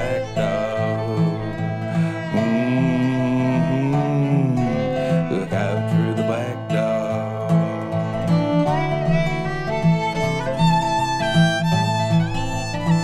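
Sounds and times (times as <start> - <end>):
fiddle melody: 0.0 - 13.0
resonator guitar rhythm: 0.0 - 13.0.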